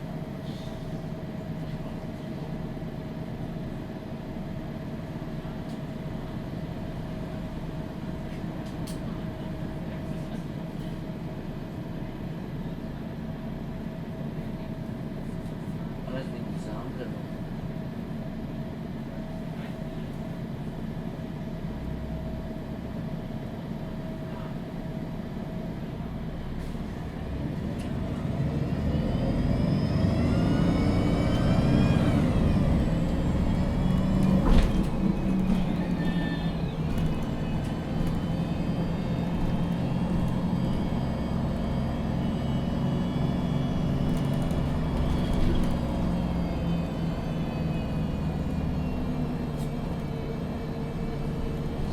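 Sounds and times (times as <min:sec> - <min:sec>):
bus engine accelerating: 0:00.0 - 0:51.9.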